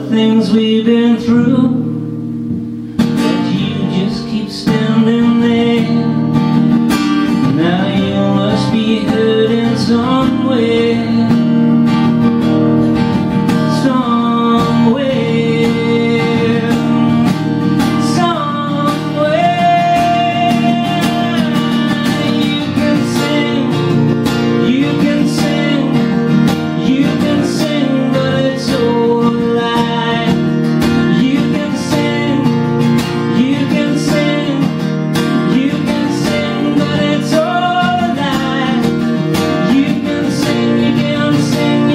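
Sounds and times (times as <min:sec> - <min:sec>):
man singing: 0:00.0 - 0:02.0, 0:03.2 - 0:06.6, 0:07.2 - 0:11.9, 0:13.2 - 0:41.9
acoustic guitar strumming: 0:00.0 - 0:41.9.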